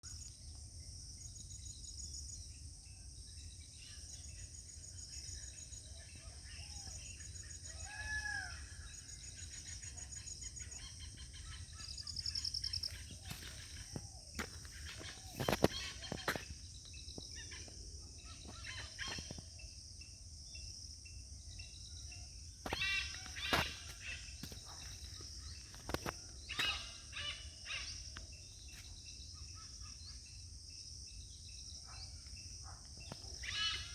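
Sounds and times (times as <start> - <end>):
high insect drone: 0.1 - 33.9
birds calling: 3.8 - 19.9, 21.3 - 33.9.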